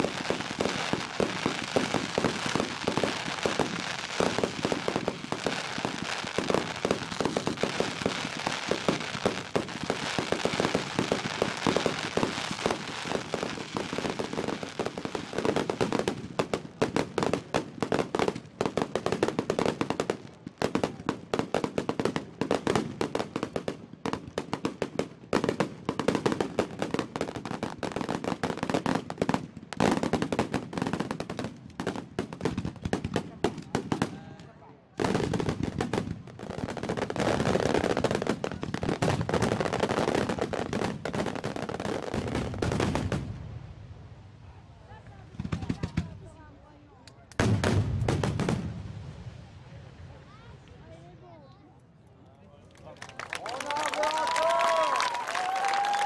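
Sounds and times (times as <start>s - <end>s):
fireworks crackling and banging: 0.0s - 43.8s, 44.5s - 51.4s, 53.0s - 56.0s.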